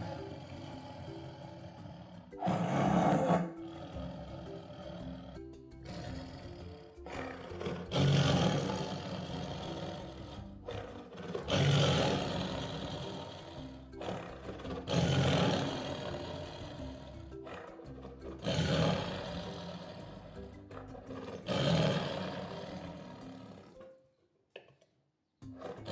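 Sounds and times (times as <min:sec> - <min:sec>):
tiger roaring: 0:00.0 - 0:23.9, 0:25.5 - 0:25.9
background music: 0:00.0 - 0:24.3, 0:25.4 - 0:25.9.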